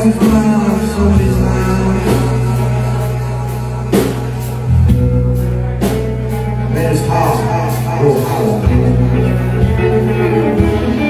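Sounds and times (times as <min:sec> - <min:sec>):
deep bass notes: 0:00.0 - 0:11.0
drum kit: 0:00.0 - 0:11.0
electric guitar: 0:00.0 - 0:11.0.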